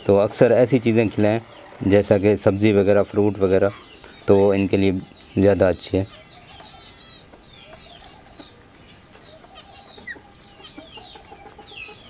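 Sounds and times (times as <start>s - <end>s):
parakeets chirping: 0.0s - 12.0s.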